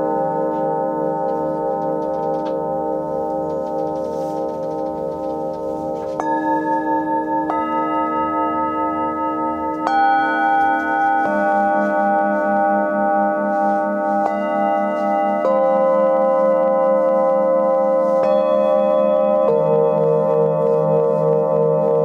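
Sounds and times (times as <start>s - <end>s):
metal singing bowls ringing: 0.0s - 22.0s.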